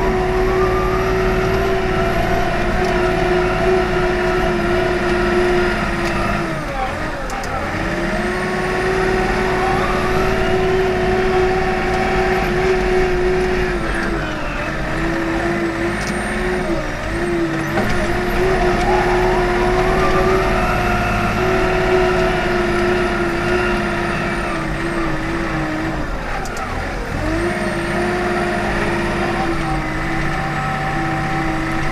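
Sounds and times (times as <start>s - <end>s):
loader diesel engine running: 0.0s - 31.9s
steady whining tone: 0.0s - 31.9s.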